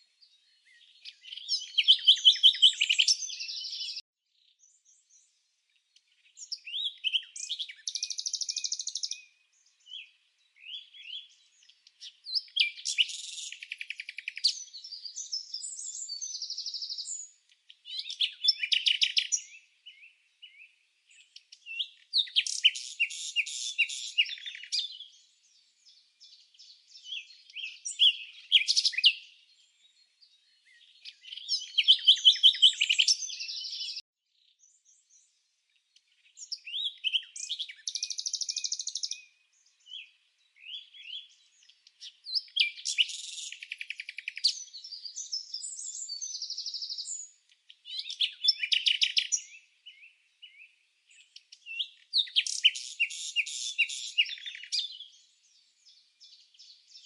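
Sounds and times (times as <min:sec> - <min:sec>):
bird chirps and trills: 0:00.5 - 0:05.3, 0:06.1 - 0:35.3, 0:36.1 - 0:57.0.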